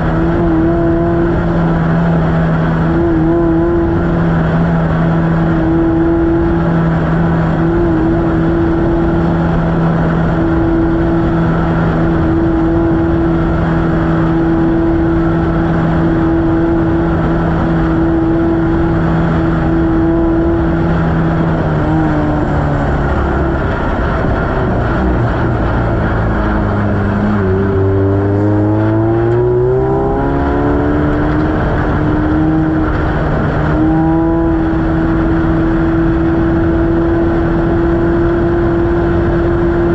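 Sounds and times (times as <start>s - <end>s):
race vehicle engine revving: 0.0s - 39.9s
rough rumbling noise: 0.0s - 39.9s.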